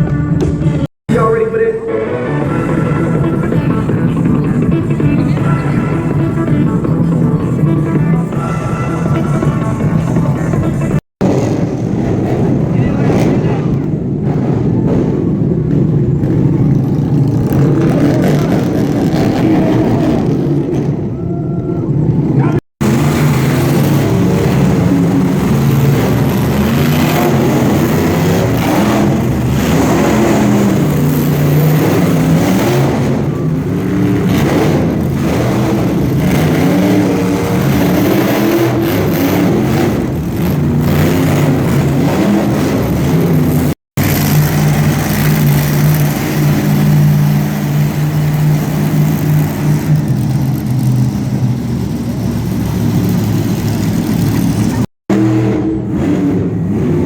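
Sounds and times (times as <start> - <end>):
truck engines revving: 0.0 - 57.0.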